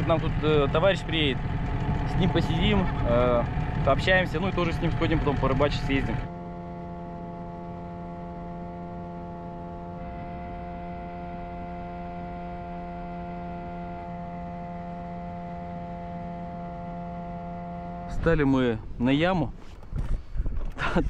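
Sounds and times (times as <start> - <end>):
outboard motor droning: 0.0 - 18.9.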